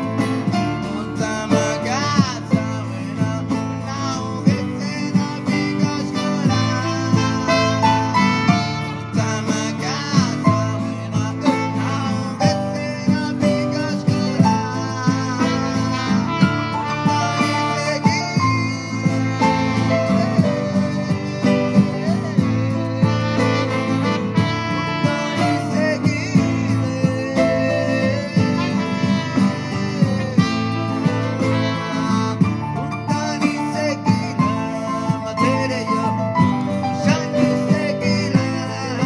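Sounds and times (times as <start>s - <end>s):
live instrumental music with piano: 0.0s - 39.0s.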